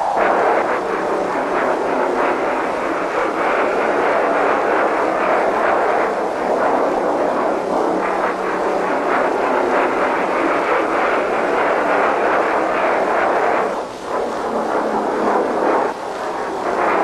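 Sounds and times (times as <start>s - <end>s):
jet aircraft engine rushing: 0.0s - 17.0s.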